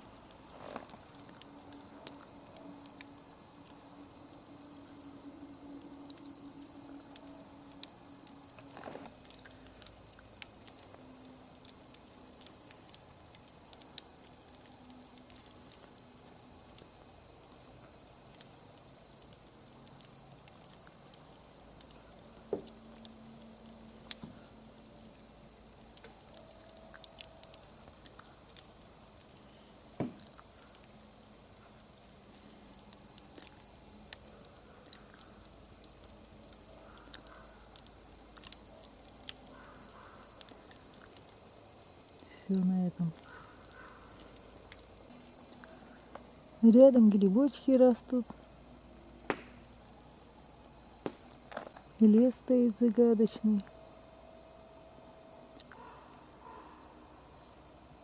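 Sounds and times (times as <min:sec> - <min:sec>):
campfire crackling and popping: 0:00.0 - 0:56.5
crickets trilling: 0:00.0 - 0:58.0
faint high-pitched hum: 0:00.0 - 0:58.0.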